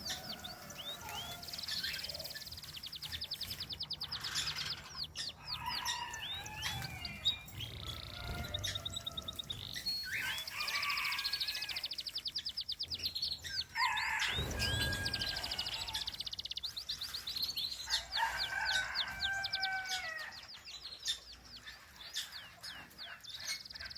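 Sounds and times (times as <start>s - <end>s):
finches chirping and calling: 0.0s - 23.9s.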